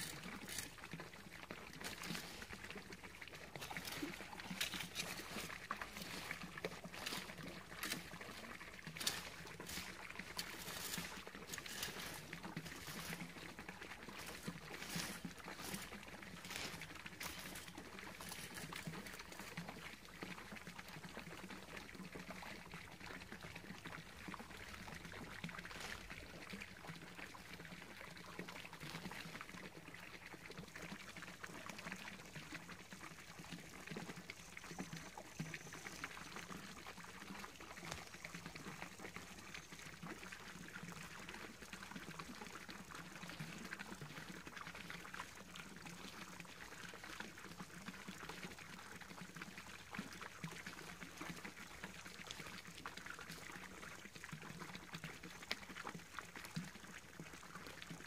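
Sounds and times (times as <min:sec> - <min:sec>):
pond fountain splashing: 0:00.0 - 0:58.0.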